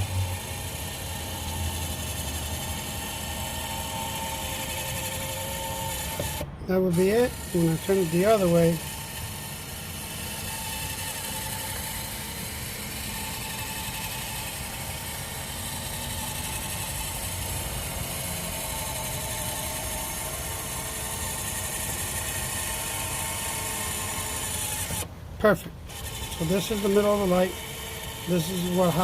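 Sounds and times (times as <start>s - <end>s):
small electric motor humming: 0.0s - 29.0s.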